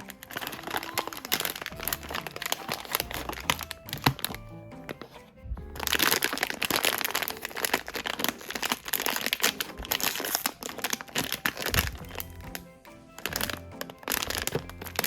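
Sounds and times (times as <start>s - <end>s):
packaging wrapper crinkling: 0.0s - 15.0s.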